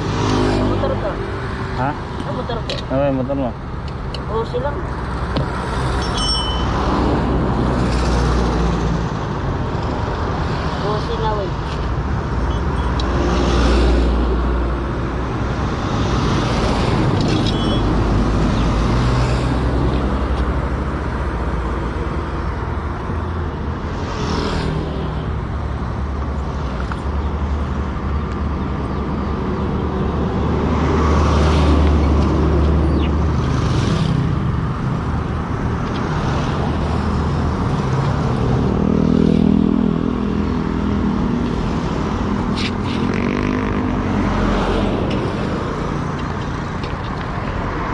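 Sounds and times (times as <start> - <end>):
vehicle engine and road rumble: 0.0 - 47.9.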